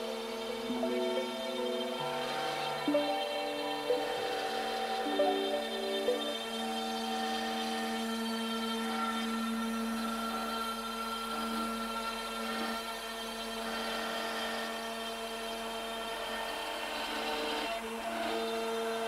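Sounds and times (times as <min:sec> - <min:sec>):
router bit cutting plywood: 0:00.0 - 0:19.0
router motor whine: 0:00.0 - 0:19.0.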